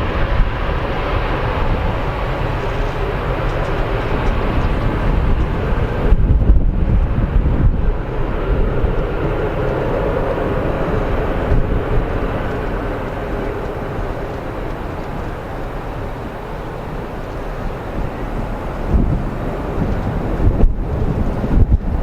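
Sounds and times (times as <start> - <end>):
jet engines roaring: 0.0 - 22.0
wind gusts on microphone: 0.0 - 22.0.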